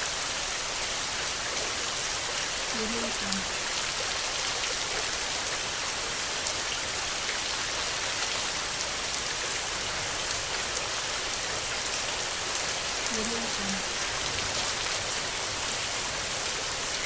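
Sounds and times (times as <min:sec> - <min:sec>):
dense rain falling: 0:00.0 - 0:17.0.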